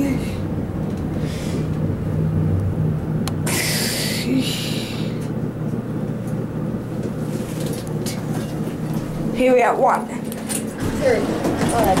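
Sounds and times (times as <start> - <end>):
elevator machine hum: 0.0 - 12.0.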